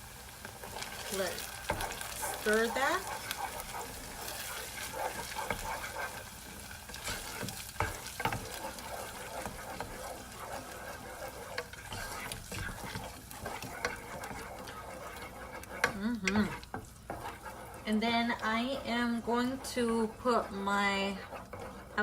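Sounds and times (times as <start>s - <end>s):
low sizzle in a pan: 0.0s - 22.0s
utensil scraping and tapping pan: 0.4s - 22.0s.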